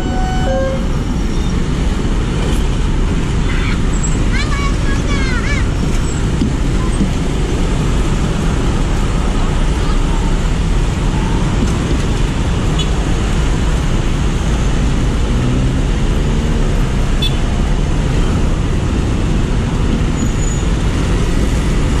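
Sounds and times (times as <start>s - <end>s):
traffic engines rumbling: 0.0s - 22.0s.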